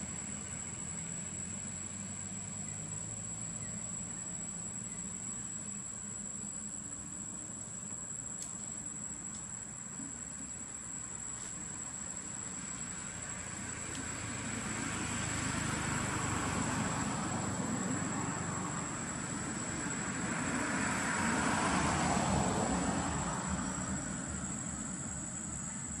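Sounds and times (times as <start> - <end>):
outdoor rumble and hiss: 0.0 - 26.0.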